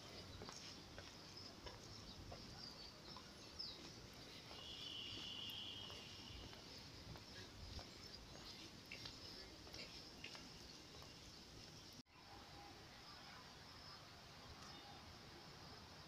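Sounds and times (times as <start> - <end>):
insects: 0.0 - 16.0.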